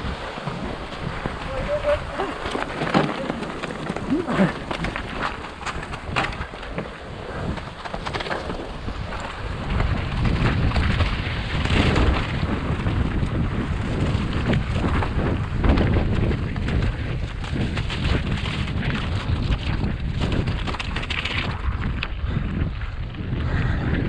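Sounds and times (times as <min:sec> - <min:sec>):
bike tyres crunching over rock: 0:00.0 - 0:23.4
wind buffeting microphone: 0:00.0 - 0:24.0.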